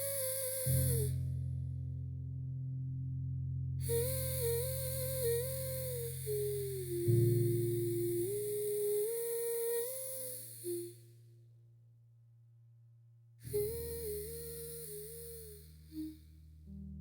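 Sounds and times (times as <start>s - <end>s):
soft low backing tone: 0.0s - 17.0s.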